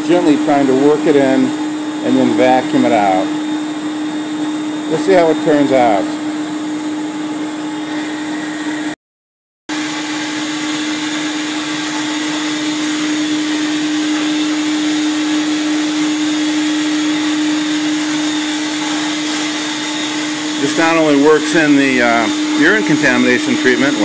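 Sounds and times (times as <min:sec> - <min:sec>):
vacuum motor humming: 0:00.0 - 0:09.0, 0:09.7 - 0:24.0.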